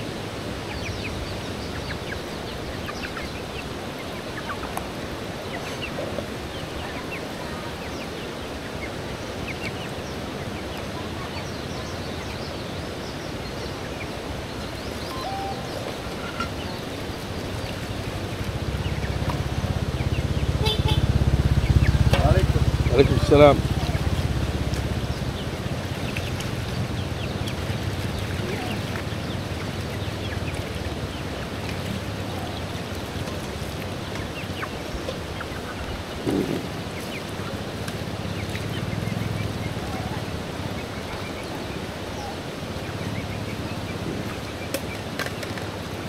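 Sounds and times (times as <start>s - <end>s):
chickens and birds chirping: 0.0s - 46.0s
vehicle engine rumble: 0.0s - 46.0s.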